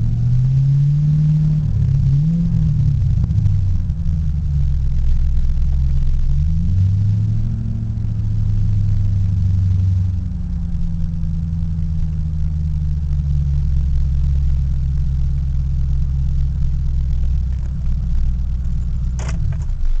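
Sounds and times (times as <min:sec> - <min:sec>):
loud car engine idling: 0:03.0 - 0:20.0.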